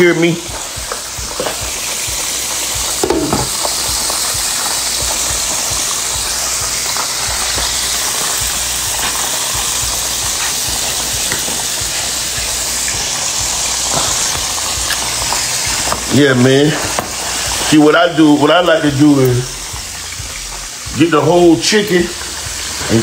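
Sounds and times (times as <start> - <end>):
chicken frying in hot oil: 0.0 - 23.0.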